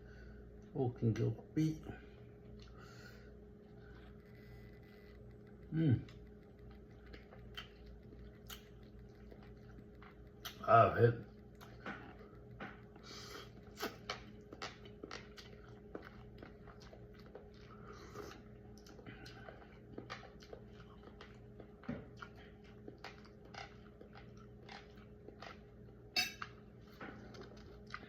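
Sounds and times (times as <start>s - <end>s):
steady low hum: 0.0s - 28.0s
person chewing food: 2.3s - 28.0s.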